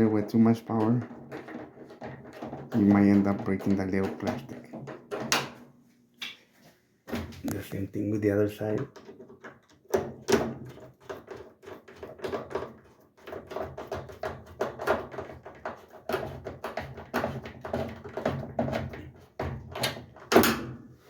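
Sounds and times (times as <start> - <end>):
clicks scrapes and knocks: 0.0 - 6.4, 7.1 - 20.7.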